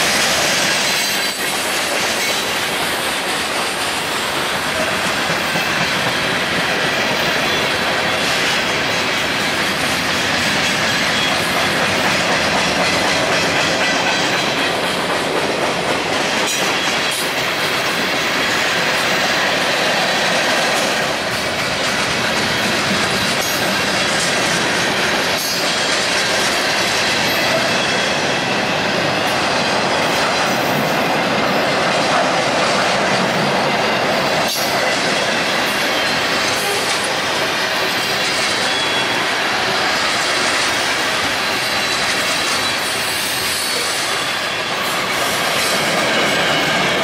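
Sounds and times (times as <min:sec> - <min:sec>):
sharp clacks of train wheels: 0:00.0 - 0:47.0
steel wheels on rails: 0:00.0 - 0:47.0.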